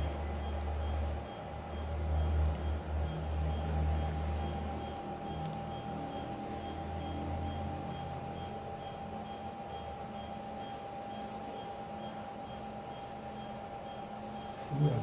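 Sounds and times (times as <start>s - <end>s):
equipment whine and hum: 0.0s - 15.0s
patient monitor beeping: 0.0s - 15.0s.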